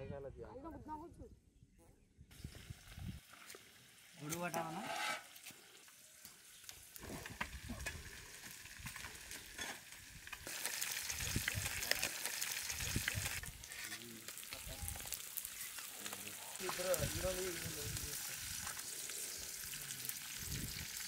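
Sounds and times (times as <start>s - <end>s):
fish sizzling in oil: 2.4s - 21.0s.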